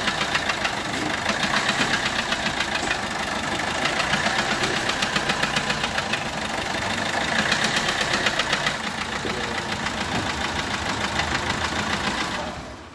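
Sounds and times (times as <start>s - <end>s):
diesel engine idling with clatter: 0.0s - 12.9s.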